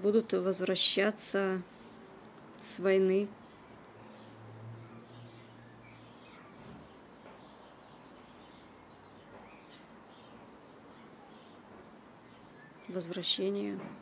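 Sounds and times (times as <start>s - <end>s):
outdoor background hiss: 0.0s - 14.0s
small birds chirping: 0.1s - 14.0s.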